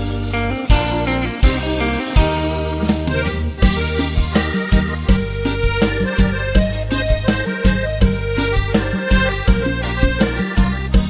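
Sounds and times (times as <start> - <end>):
instrumental music with steady beat: 0.0 - 11.0
reedy accordion-like melody: 0.0 - 11.0.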